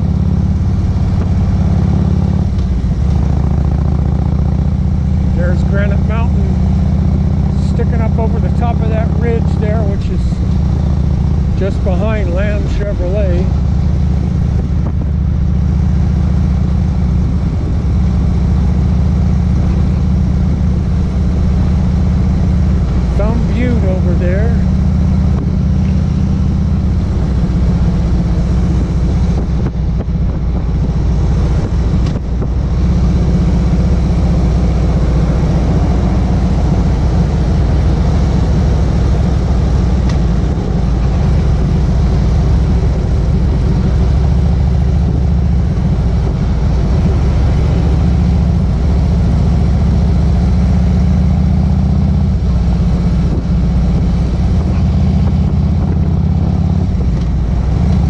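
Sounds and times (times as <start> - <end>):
motorcycle engine cruising: 0.0 - 58.0
road noise: 0.0 - 58.0
wind noise: 4.7 - 58.0.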